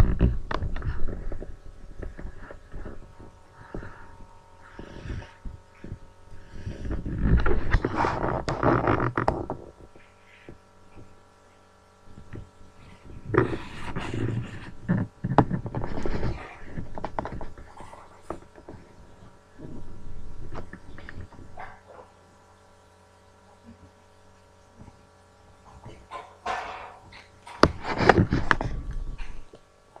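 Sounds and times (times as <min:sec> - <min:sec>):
steady electrical whine: 0:00.0 - 0:30.0.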